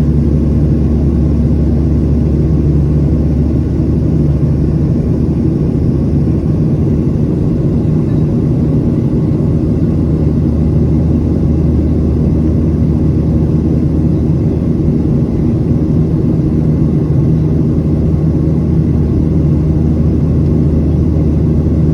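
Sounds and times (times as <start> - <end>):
jet engines rumbling: 0.0 - 21.9.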